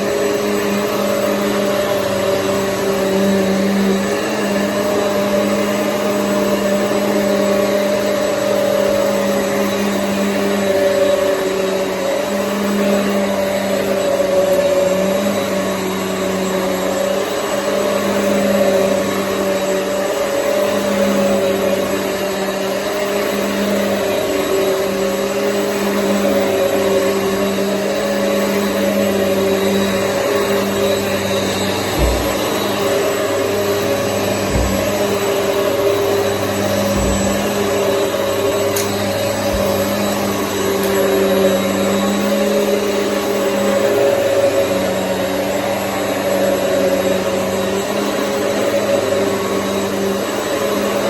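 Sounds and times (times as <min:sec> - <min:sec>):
vacuum cleaner motor hum: 0:00.0 - 0:51.0.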